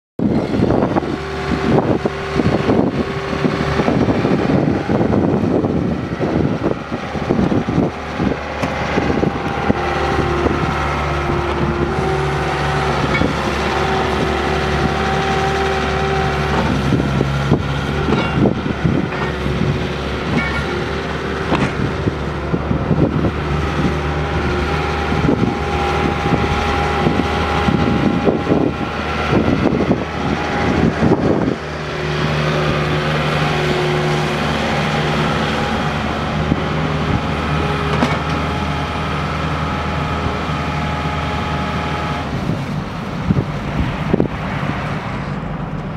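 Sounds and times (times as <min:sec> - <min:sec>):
diesel engine running: 0:00.2 - 0:45.9.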